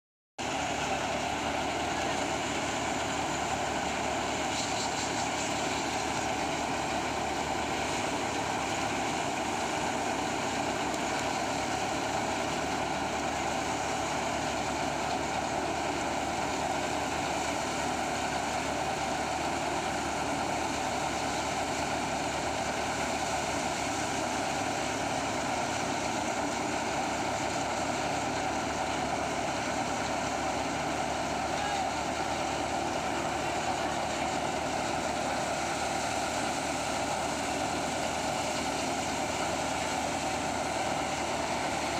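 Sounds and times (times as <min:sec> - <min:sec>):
tractor engine drone: 0:00.4 - 0:41.9.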